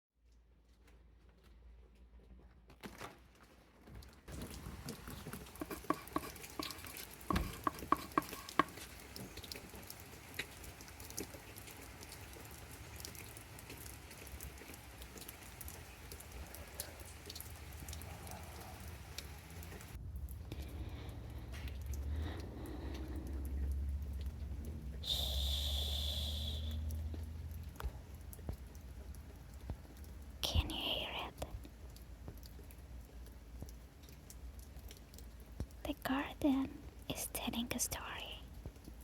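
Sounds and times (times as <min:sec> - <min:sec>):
rain pattering: 0:03.0 - 0:39.0.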